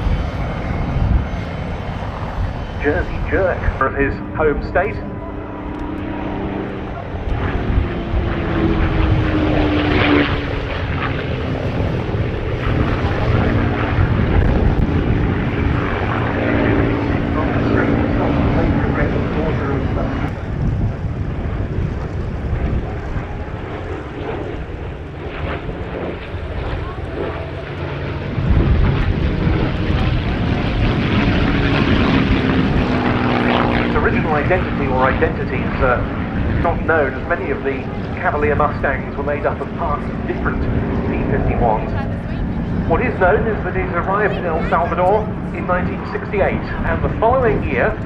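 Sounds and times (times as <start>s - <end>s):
aircraft engine flying past: 0.0s - 48.0s.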